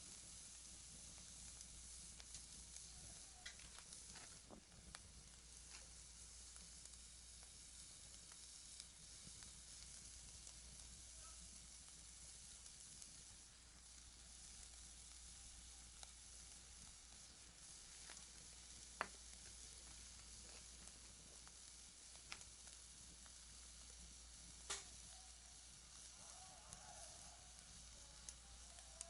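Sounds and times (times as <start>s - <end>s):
fire sizzling hiss: 0.0s - 29.0s
sharp pops from fire: 0.0s - 29.0s.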